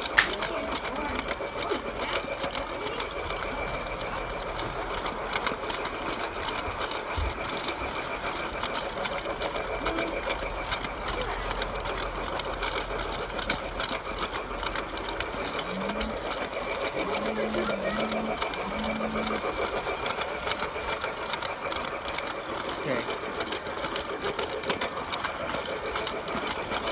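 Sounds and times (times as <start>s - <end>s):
rapid gear clicking: 0.0s - 26.9s
toy train motor whirring: 0.0s - 26.9s.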